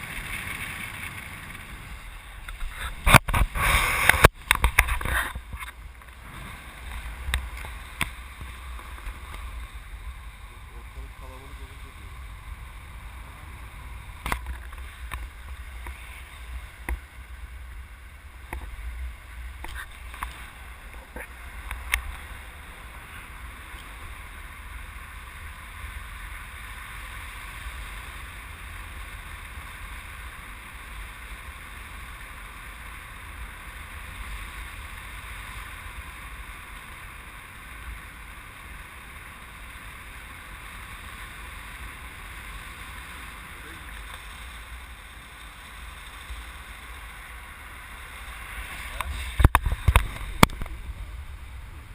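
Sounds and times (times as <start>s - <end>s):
wind rushing over microphone: 0.0s - 30.4s, 38.7s - 51.9s.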